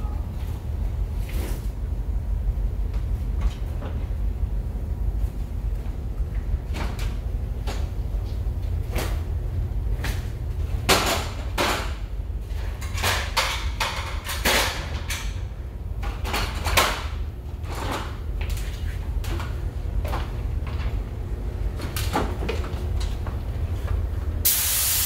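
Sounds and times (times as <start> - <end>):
ventilation rumble: 0.0 - 25.0.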